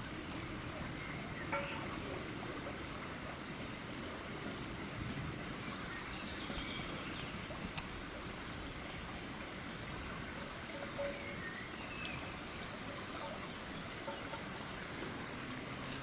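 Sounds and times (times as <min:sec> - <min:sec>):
shallow stream rushing: 0:00.0 - 0:16.0.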